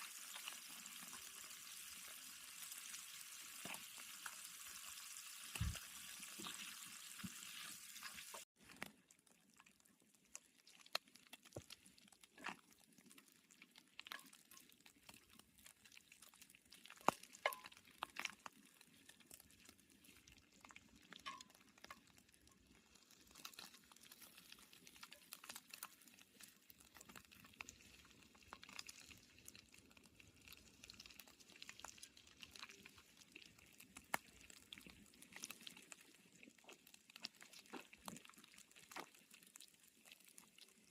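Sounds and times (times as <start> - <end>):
bacon sizzling in a pan: 0.0 - 40.9
faint pops and crackles: 0.0 - 40.9.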